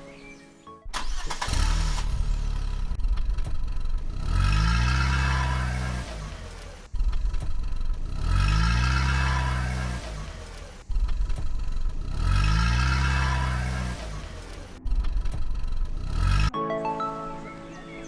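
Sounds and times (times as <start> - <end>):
car engine starting and revving: 0.9 - 16.5.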